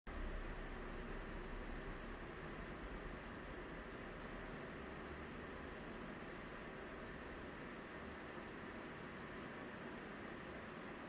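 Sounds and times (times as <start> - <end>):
computer fans and pump whirring: 0.1 - 11.0.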